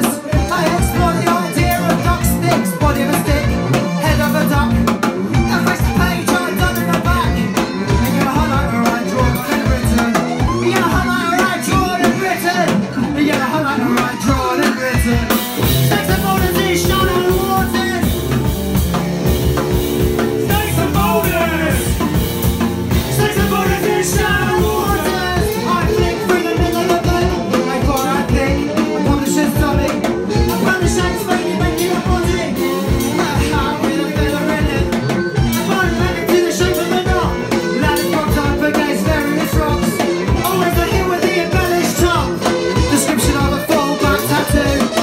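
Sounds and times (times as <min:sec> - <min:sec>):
person singing: 0:00.0 - 0:18.5, 0:19.2 - 0:45.0
drum kit beating: 0:00.0 - 0:45.0
electric guitar: 0:00.0 - 0:45.0.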